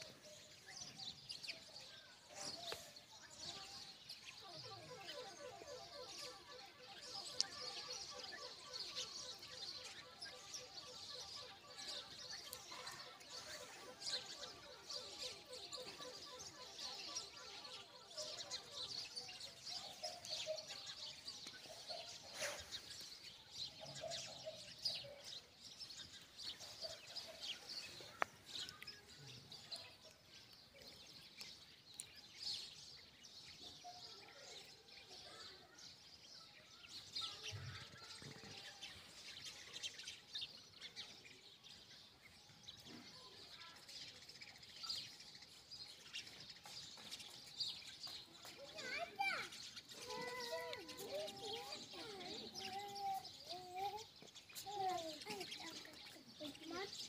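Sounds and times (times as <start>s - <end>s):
birds chirping: 0.0s - 57.0s
outdoor background noise: 0.0s - 57.0s.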